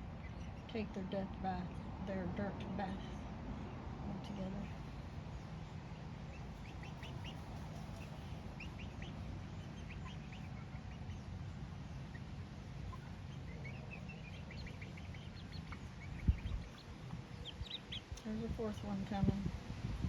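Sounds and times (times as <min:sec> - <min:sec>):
chickens chirping: 0:00.0 - 0:19.4
steady low rumble: 0:00.0 - 0:20.0.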